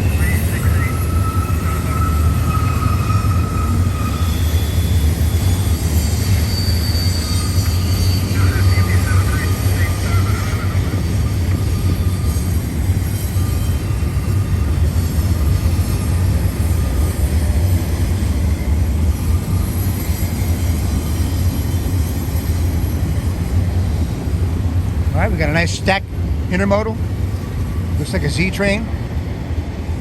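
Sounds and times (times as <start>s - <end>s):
train cars rumbling past: 0.0s - 30.0s
wheel-on-rail noise: 0.0s - 30.0s.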